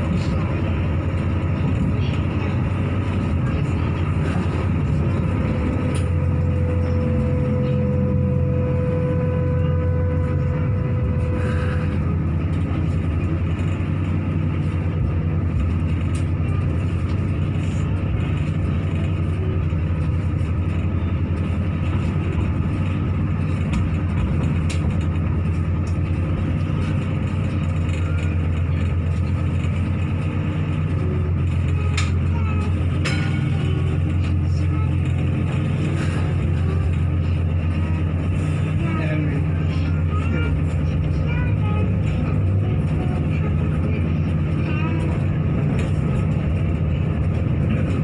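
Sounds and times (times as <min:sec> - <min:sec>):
light rail car rumbling on track: 0:00.0 - 0:48.0
steady whine: 0:00.0 - 0:48.0.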